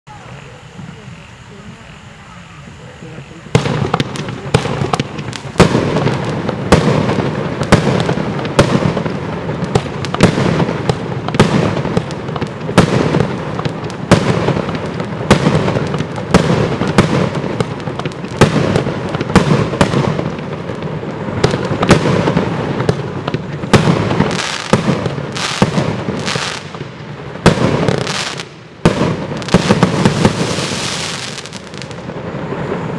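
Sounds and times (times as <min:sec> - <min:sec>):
rushing noise of fireworks: 0:00.1 - 0:32.9
fireworks cake bangs: 0:03.5 - 0:32.9.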